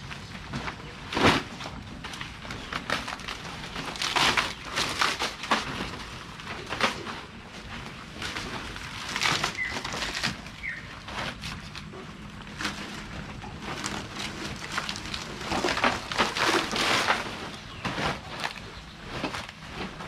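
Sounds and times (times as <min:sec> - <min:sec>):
leaves rustling and crackling: 0:00.0 - 0:20.0.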